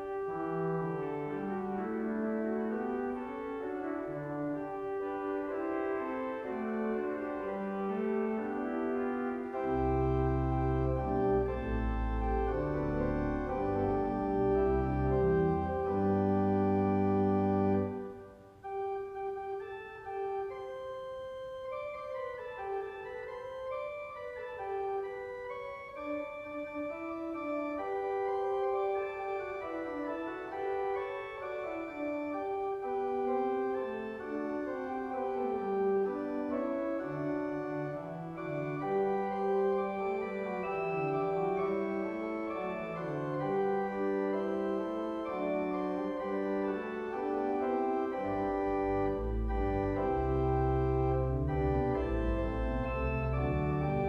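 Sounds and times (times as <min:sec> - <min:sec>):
church organ chords: 0:00.0 - 0:54.0
deep organ pedal bass notes: 0:00.0 - 0:54.0.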